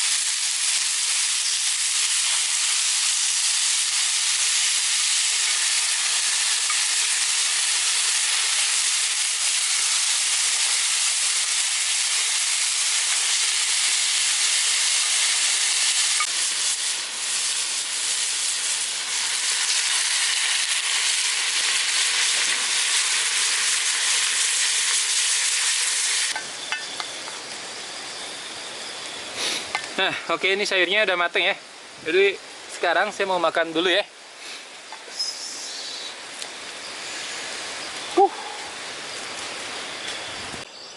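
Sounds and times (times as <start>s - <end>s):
vegetables sizzling in a pan: 0.0s - 30.8s, 31.7s - 40.6s.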